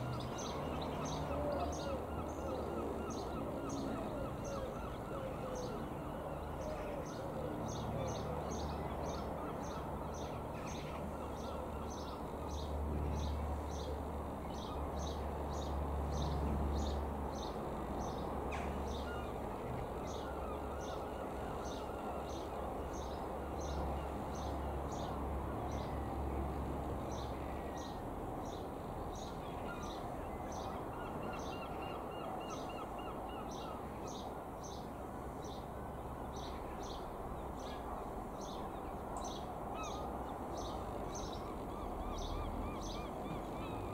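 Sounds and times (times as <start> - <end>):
distant propeller plane drone: 0.0 - 43.9.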